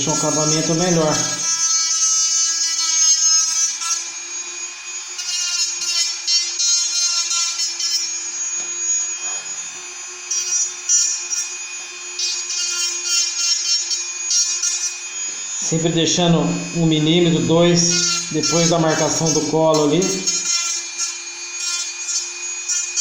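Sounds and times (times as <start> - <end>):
rotary handpiece motor whine: 0.0 - 23.0.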